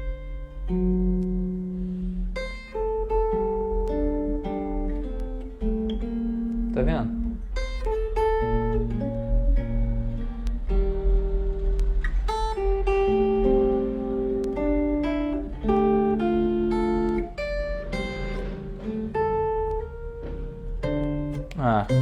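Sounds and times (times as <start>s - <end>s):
solo guitar chord melody: 0.0s - 22.0s.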